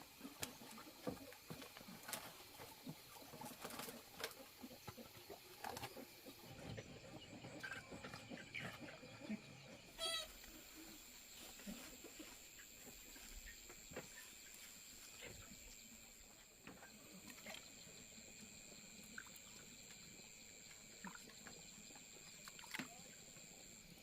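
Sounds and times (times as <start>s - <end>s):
faint high-pitched whine: 0.0s - 24.0s.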